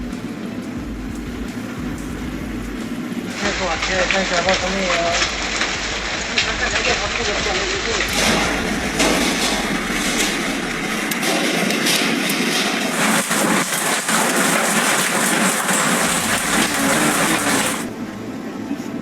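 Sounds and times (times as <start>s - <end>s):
hailstones clattering: 0.0s - 17.9s.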